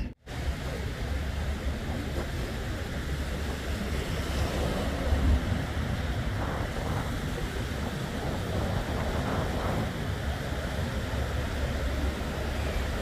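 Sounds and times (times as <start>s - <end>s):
sea waves washing ashore: 0.2s - 13.0s
wind buffeting microphone: 0.3s - 13.0s.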